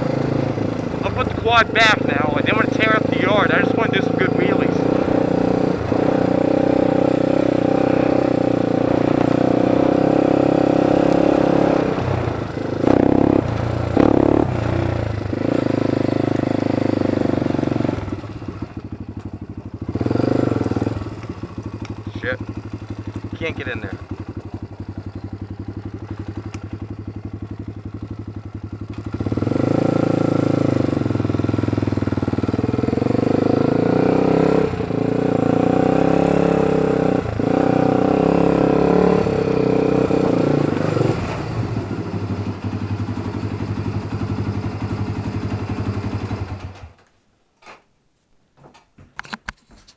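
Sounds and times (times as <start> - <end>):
atv engine revving: 0.0 - 47.0.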